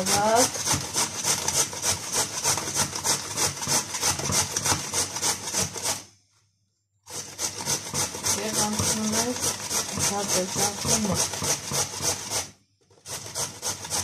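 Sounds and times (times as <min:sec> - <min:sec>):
carrot grating on metal grater: 0:00.0 - 0:06.1, 0:07.1 - 0:14.0.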